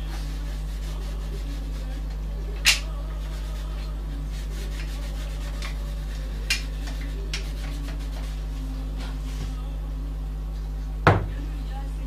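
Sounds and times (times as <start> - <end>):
hands rubbing wooden parts: 0.0 - 9.7
low electrical hum: 0.0 - 12.0.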